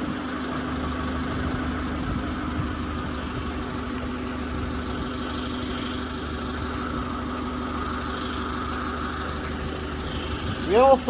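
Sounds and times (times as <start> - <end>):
forklift engine idling: 0.0 - 11.0.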